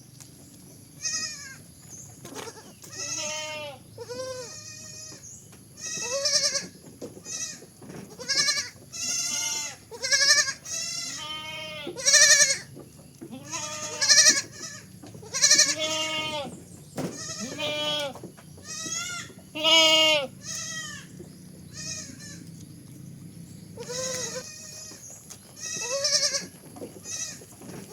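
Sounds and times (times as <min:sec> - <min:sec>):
goat bleating: 0:01.0 - 0:01.6, 0:02.2 - 0:22.7, 0:23.8 - 0:27.9.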